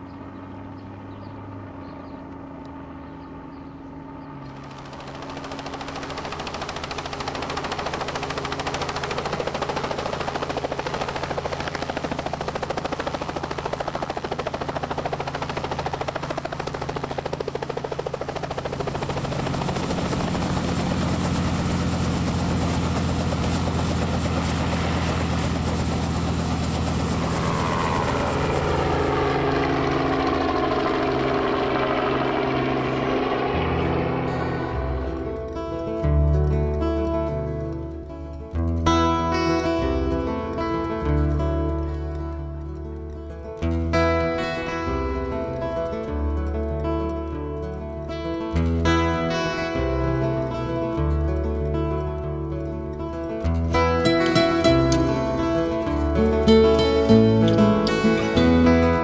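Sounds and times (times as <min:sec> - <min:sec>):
helicopter rotor and engine drone: 0:00.0 - 0:59.0.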